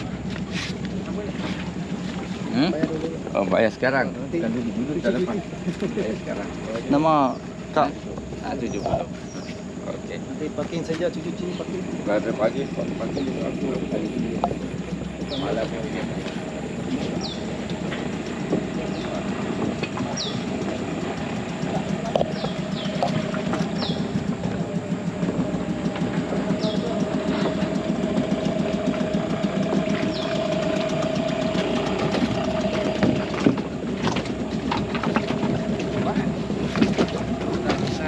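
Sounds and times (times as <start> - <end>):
engine running: 0.0 - 38.0.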